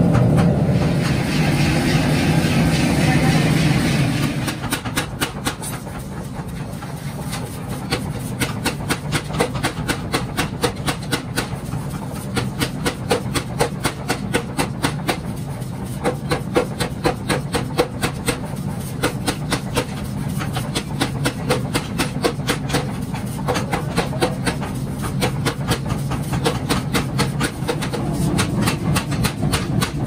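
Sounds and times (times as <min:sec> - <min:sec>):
power hammer pounding hot steel: 0:00.0 - 0:30.0.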